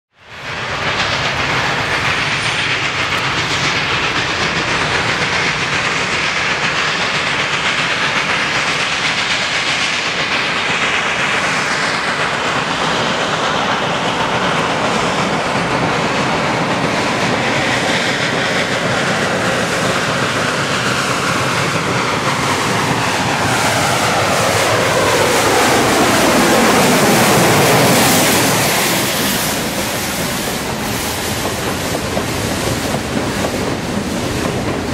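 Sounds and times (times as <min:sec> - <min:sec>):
steam locomotive passing: 0:00.1 - 0:34.9
clickety-clack of train wheels: 0:00.2 - 0:34.9.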